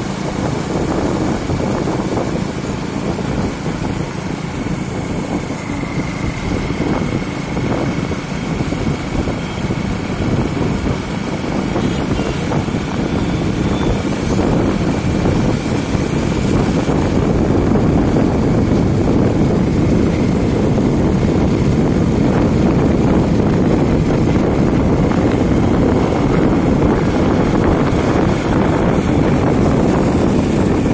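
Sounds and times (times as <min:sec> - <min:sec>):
motorbike engine drone: 0:00.0 - 0:30.9
wind rush on microphone: 0:00.0 - 0:30.9.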